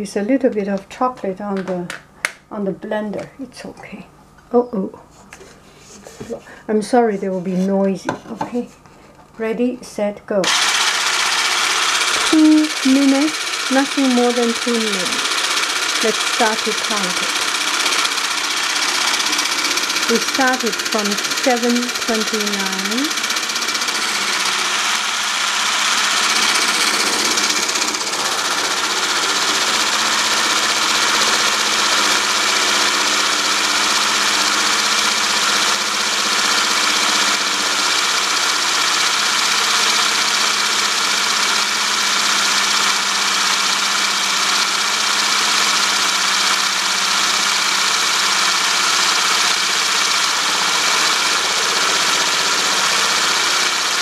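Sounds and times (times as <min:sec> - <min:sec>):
electric blender running: 0:10.4 - 0:54.0.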